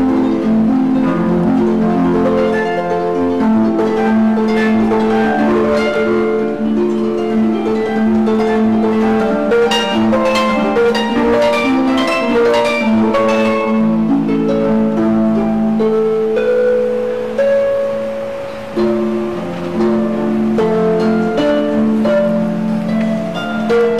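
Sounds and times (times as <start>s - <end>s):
harp music: 0.0s - 23.9s.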